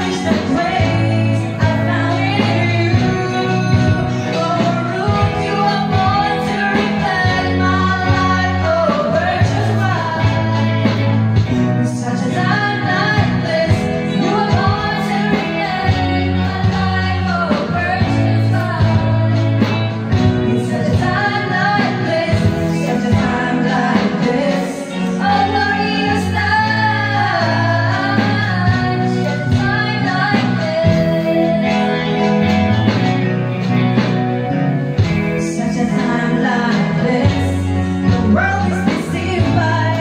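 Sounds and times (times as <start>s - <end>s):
women singing gospel: 0.0s - 32.5s, 35.4s - 40.0s
instrumental accompaniment: 0.0s - 40.0s.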